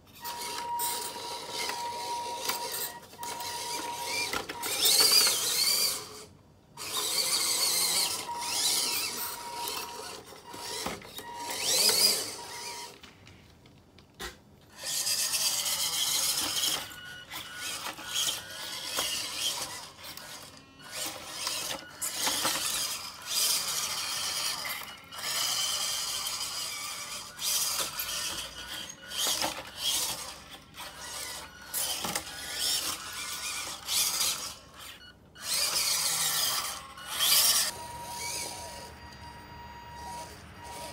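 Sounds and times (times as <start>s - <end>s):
toy truck electric motor whining: 0.0s - 13.1s, 14.7s - 40.9s.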